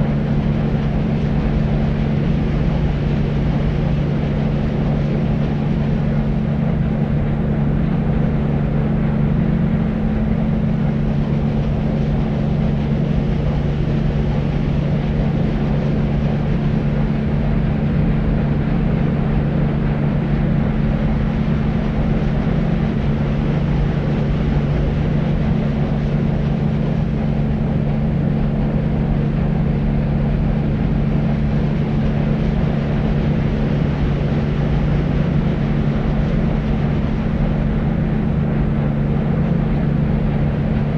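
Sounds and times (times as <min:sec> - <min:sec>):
deep low rumbling noise: 0:00.0 - 0:40.9
low hum: 0:00.0 - 0:40.9.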